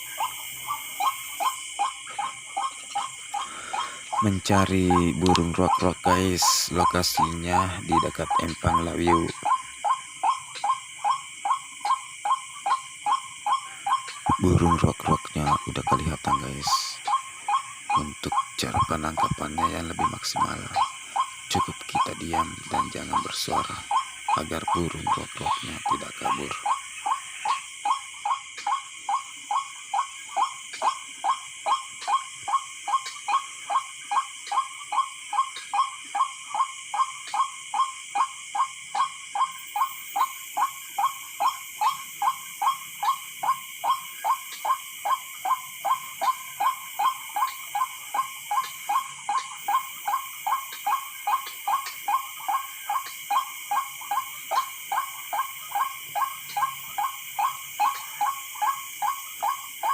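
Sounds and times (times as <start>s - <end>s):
bird calls: 0.0s - 59.9s
night insects humming: 0.0s - 59.9s.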